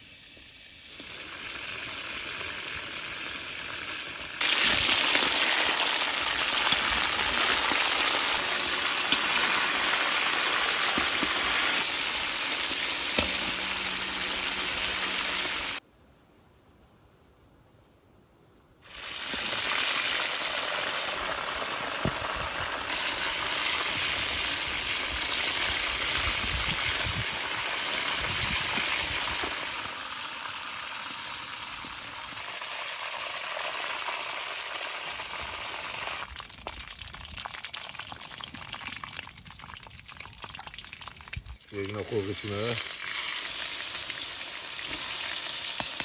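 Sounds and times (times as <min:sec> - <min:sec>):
oil sizzling while frying: 0:00.0 - 0:15.8, 0:18.9 - 0:46.0.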